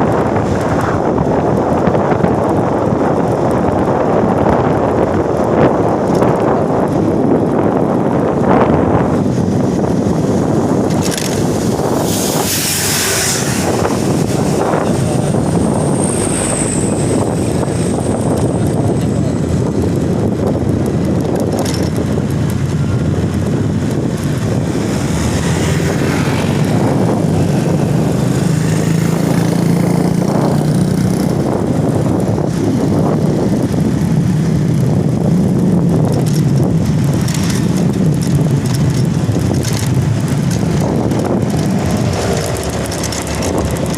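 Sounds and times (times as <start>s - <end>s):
heavy vehicles passing: 0.0s - 43.9s
low engine drone: 3.6s - 30.7s, 31.3s - 43.9s.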